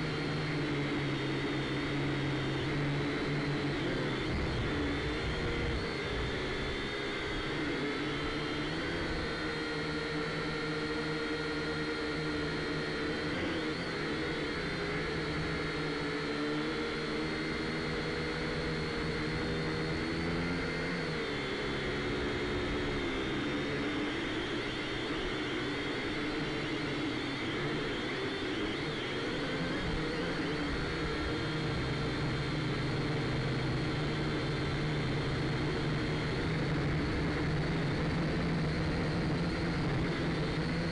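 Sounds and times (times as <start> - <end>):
drone propellers whirring: 0.0 - 40.9.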